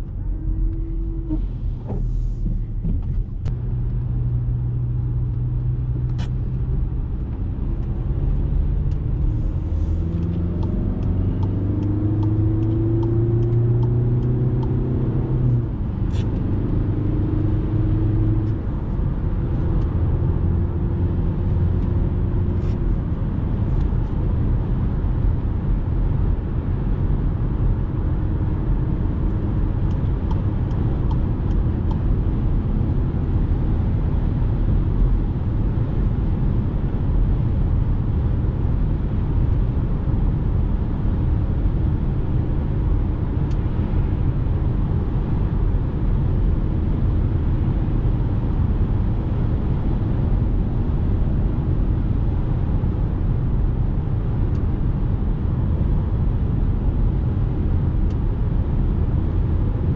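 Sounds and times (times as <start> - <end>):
car engine running: 0.0 - 59.9
road and tyre rumble: 0.0 - 59.9.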